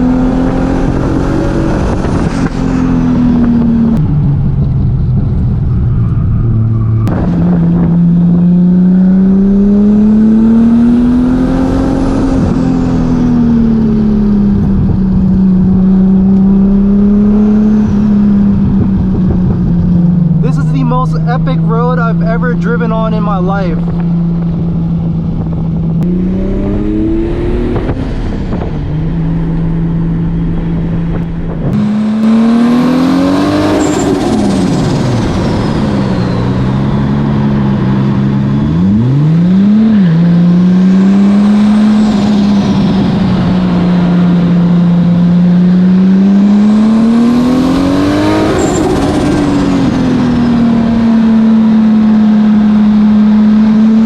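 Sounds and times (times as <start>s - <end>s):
car engine revving: 0.0s - 54.0s
high turbo whine: 0.0s - 54.0s.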